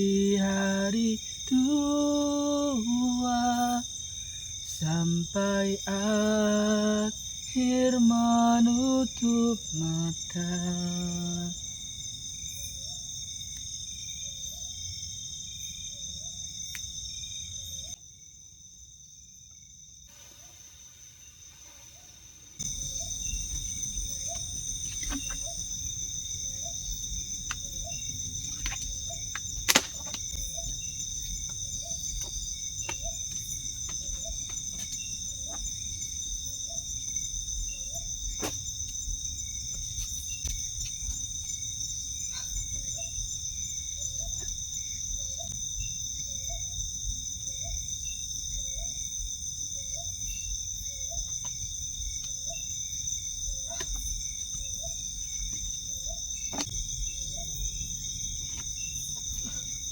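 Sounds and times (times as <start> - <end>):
chorus of crickets: 0.0 - 59.9.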